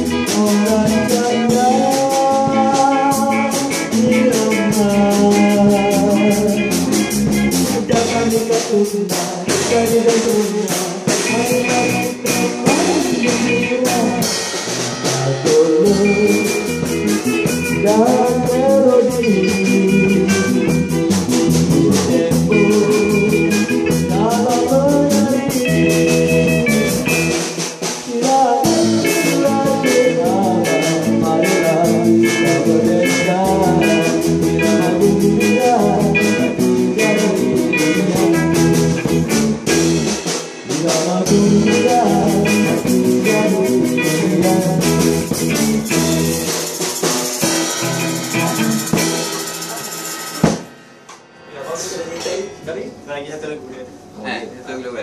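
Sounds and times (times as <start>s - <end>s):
person singing: 0.0s - 46.6s, 47.6s - 50.4s
live rock band playing: 0.0s - 52.4s.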